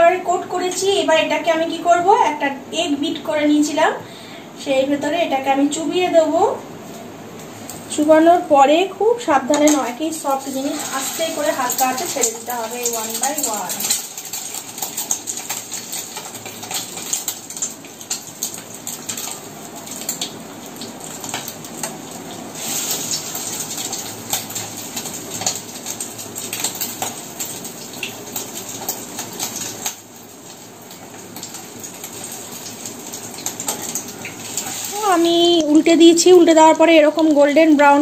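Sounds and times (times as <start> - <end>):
food deep-frying in oil: 0.0 - 3.9, 4.7 - 38.0.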